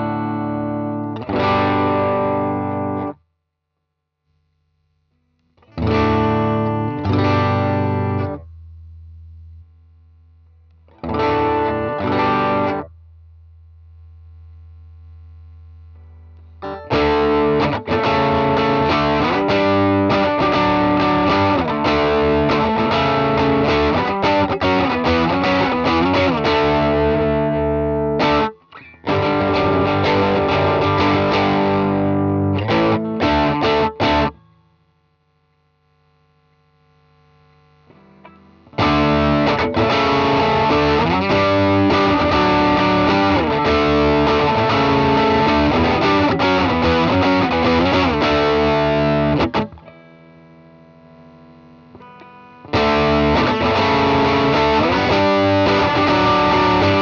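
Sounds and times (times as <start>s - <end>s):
distorted electric guitar: 0.0s - 3.2s, 4.4s - 57.0s.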